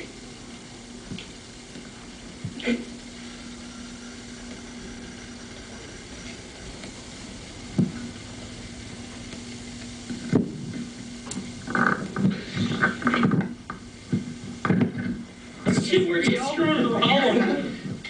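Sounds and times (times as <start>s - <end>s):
videotape hiss and hum: 0.0s - 18.0s.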